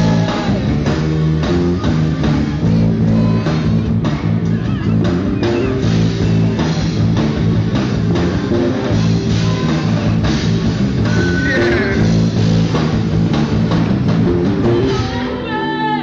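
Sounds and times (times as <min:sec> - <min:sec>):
drum kit beat: 0:00.0 - 0:15.6
electric guitars: 0:00.0 - 0:15.9.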